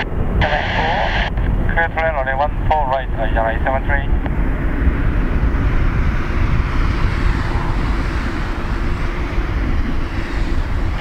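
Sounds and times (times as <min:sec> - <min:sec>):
jet engines during takeoff: 0:00.0 - 0:11.0.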